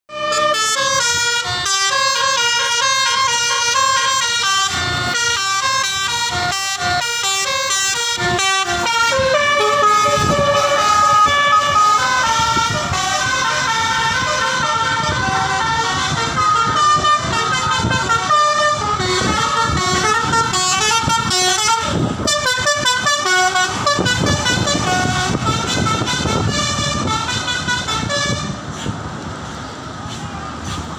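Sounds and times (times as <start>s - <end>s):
multi-note musical air horns: 0.1s - 28.6s.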